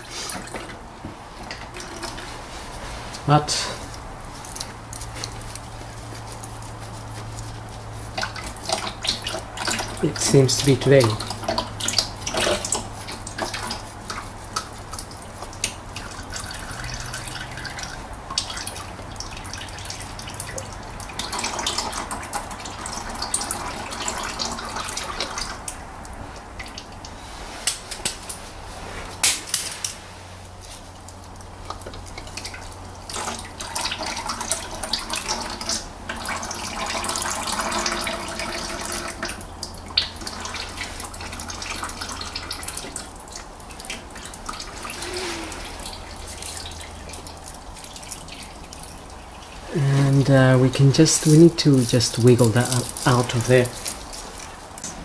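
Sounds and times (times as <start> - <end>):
oil draining into pan: 0.0 - 5.8, 8.1 - 27.2, 30.5 - 55.0.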